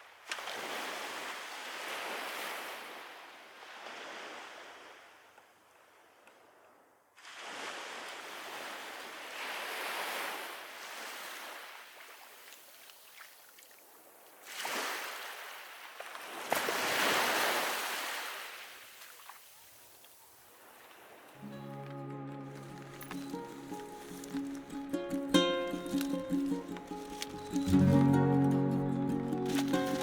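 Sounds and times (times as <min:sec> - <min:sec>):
surf on shore: 0:00.0 - 0:06.2, 0:07.2 - 0:12.5, 0:14.4 - 0:19.4, 0:20.5 - 0:30.0.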